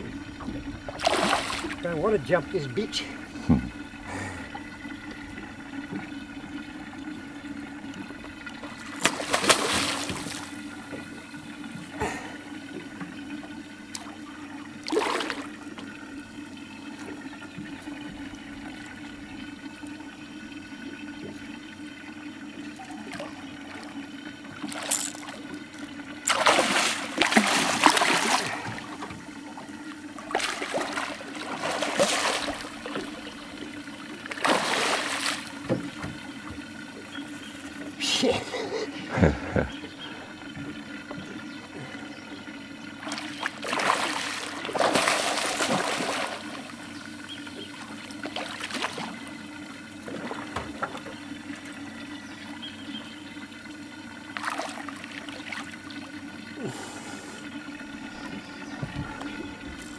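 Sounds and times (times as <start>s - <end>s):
fish splashing and thrashing in water: 0.0s - 2.5s, 3.2s - 20.1s, 20.8s - 38.0s, 42.9s - 52.1s, 53.4s - 59.9s
steady low hum: 0.0s - 59.9s.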